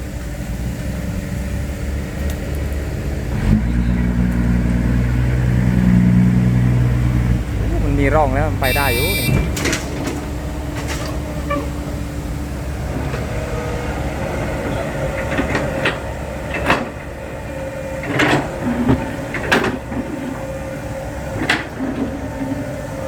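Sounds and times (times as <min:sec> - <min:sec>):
dump truck rumbling: 0:00.0 - 0:23.0.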